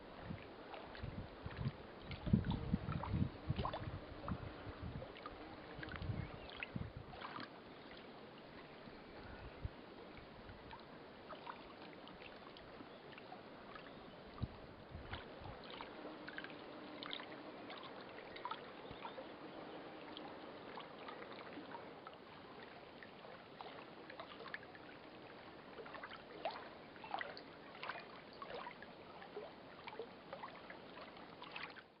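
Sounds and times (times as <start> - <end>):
small waves lapping: 0.0 - 32.0
little splashes and ticks: 0.1 - 32.0.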